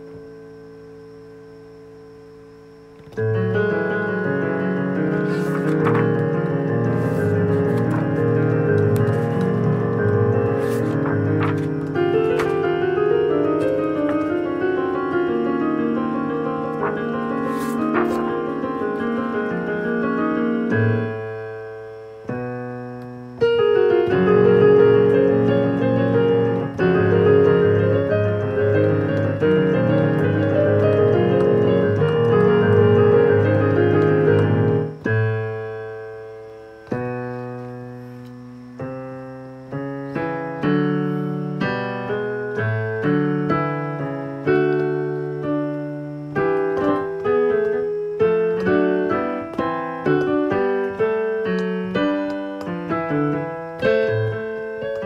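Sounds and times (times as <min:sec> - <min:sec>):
piano chords and fast passages: 0:02.5 - 0:55.0.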